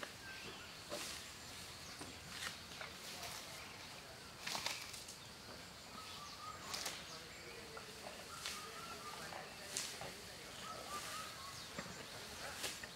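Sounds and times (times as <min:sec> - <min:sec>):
elephant chewing grass: 0:00.8 - 0:05.3, 0:06.0 - 0:12.9.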